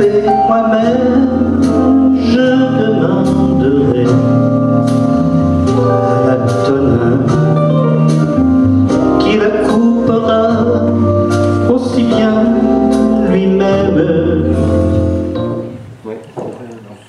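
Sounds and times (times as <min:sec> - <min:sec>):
man singing into a microphone: 0:00.0 - 0:05.0, 0:05.7 - 0:15.0
instrumental accompaniment with bass: 0:00.0 - 0:16.2.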